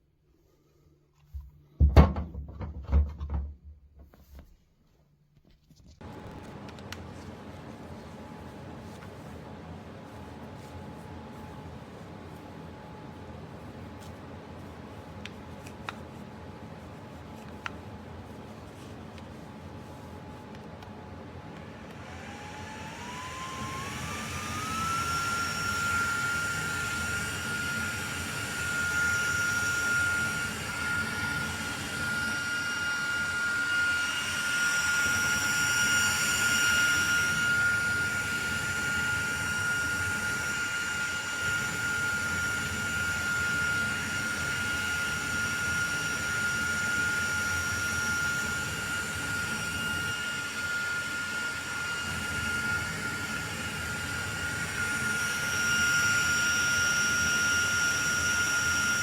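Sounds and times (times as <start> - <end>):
portable fan motor whine: 6.0 - 59.0.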